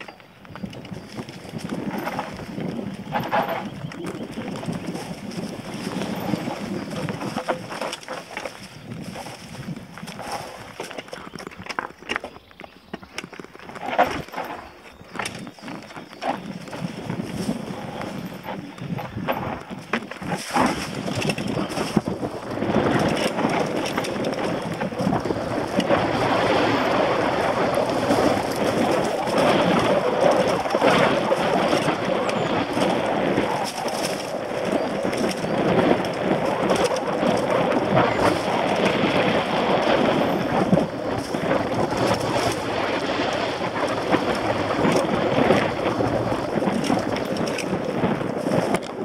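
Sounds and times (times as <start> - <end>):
bike knocking and rattling: 0.0 - 49.0
bike tyres rolling over dirt trail: 0.0 - 49.0.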